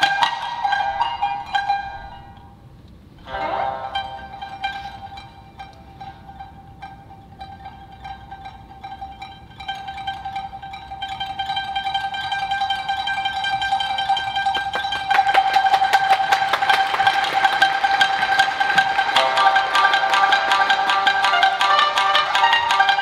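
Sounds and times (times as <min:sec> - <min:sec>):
shamisen rapid strikes: 0:00.0 - 0:23.0.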